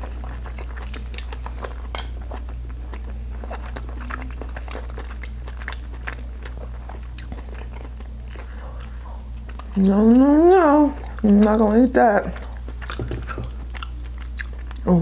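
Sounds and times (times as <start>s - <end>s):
steady low hum: 0.0s - 15.0s
wet chewing: 0.0s - 15.0s.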